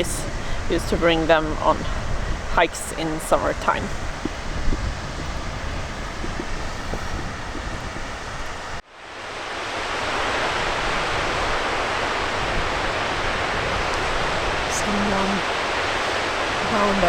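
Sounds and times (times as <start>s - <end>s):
wind buffeting microphone: 0.0s - 8.8s, 9.4s - 17.0s
river water rushing: 0.0s - 17.0s.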